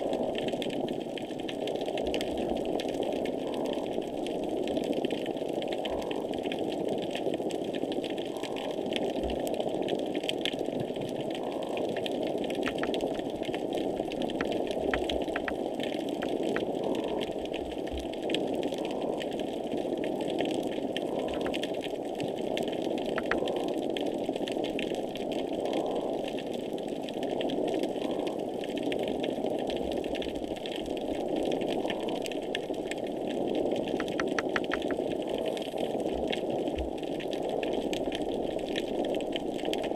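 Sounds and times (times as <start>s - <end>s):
faint crackling clicks: 0.0s - 39.9s.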